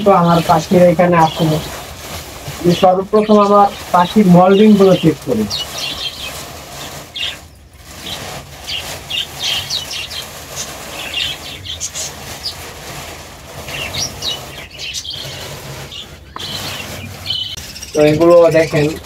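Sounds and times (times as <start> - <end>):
plastic sheeting rustling: 0.0 - 19.0
small birds chirping: 0.0 - 19.0.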